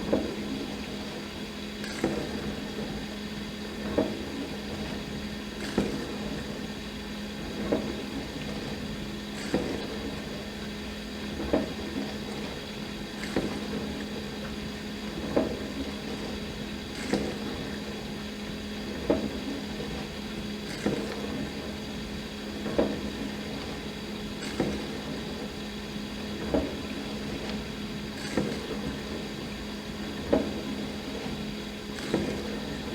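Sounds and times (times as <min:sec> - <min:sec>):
dishwasher pump hum: 0:00.0 - 0:32.9.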